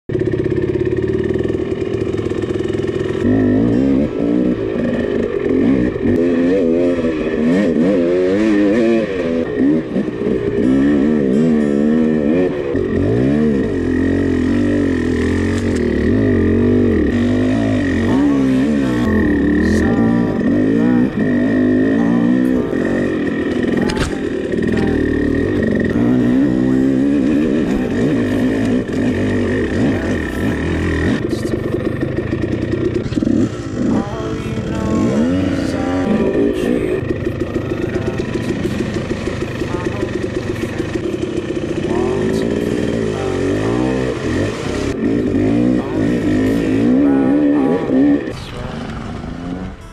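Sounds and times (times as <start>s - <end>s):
dirt bike engine revving: 0.1s - 49.9s.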